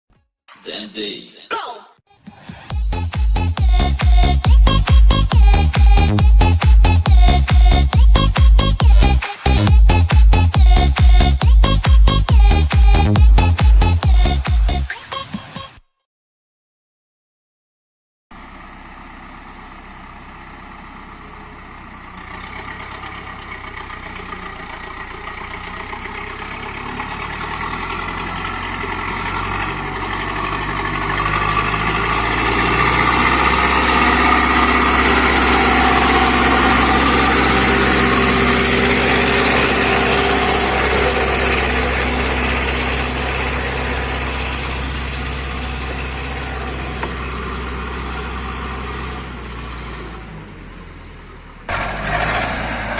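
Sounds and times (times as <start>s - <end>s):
tractor diesel engine running: 2.7s - 14.9s, 18.3s - 52.9s.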